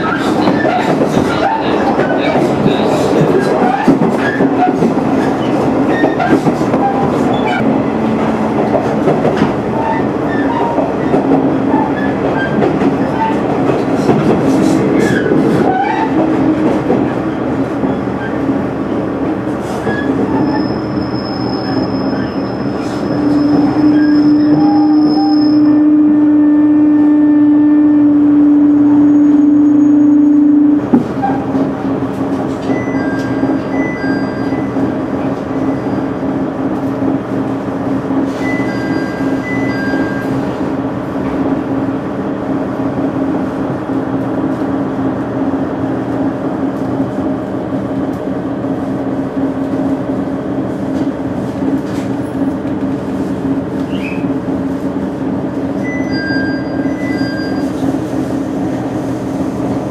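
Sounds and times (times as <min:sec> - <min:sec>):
train cabin rumble: 0:00.0 - 0:55.9
railcar engine drone: 0:00.0 - 0:59.9.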